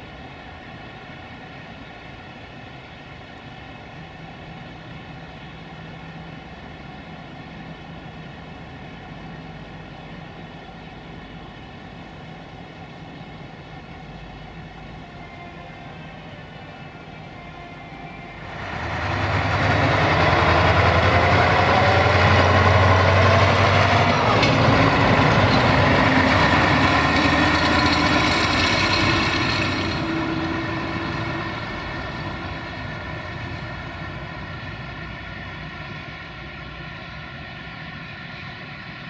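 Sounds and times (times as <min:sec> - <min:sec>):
rail vehicle engine passing: 0:00.0 - 0:39.0.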